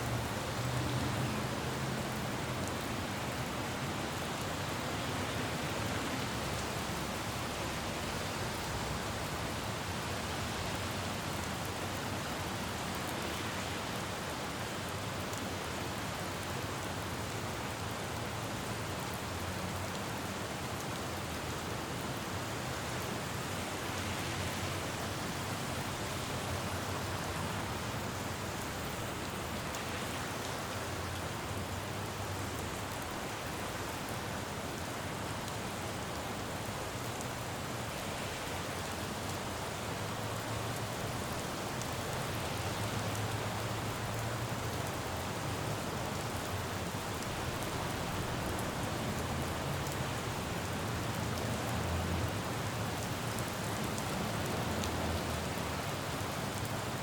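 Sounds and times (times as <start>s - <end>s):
rain falling on road: 0.0s - 57.0s.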